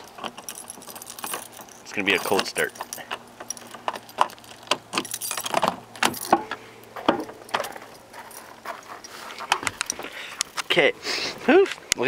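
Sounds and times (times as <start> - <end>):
keys jangling: 0.0 - 6.6, 7.2 - 10.6.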